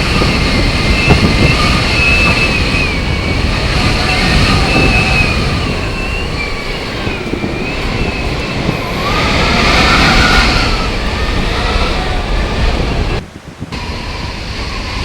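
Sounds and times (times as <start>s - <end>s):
storm wind on microphone: 0.0s - 15.0s
wind whistling: 0.0s - 15.0s.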